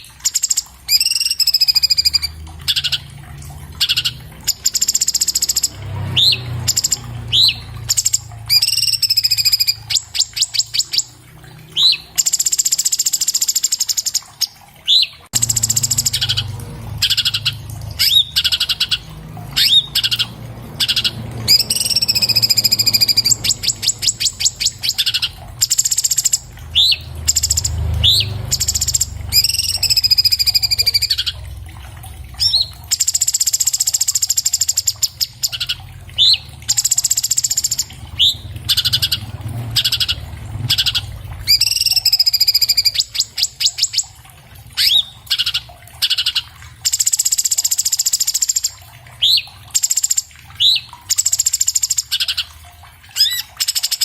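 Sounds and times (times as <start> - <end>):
bird singing fast trills: 0.0 - 3.1, 3.8 - 31.4, 32.4 - 44.2, 44.8 - 52.5, 53.2 - 54.0.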